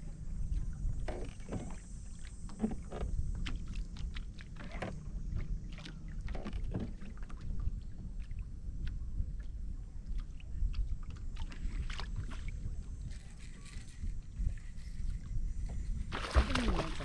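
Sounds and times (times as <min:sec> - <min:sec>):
low wind rumble: 0:00.0 - 0:17.0
waves slapping against hull: 0:00.0 - 0:17.0.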